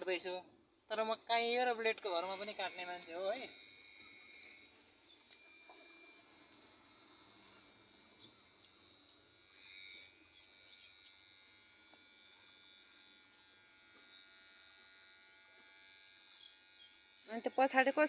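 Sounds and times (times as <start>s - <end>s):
electric hair clipper buzzing: 1.0s - 18.0s.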